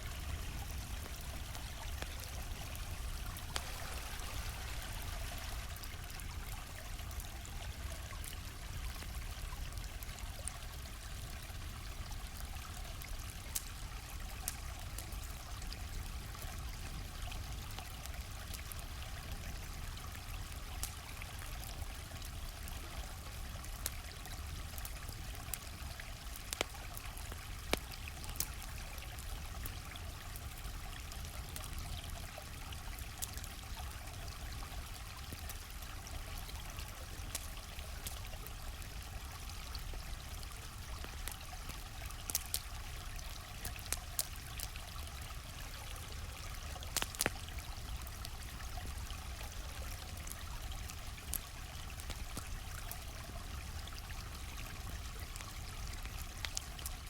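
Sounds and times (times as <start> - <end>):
campfire crackling and popping: 0.0 - 57.0
stream flowing: 0.0 - 57.0.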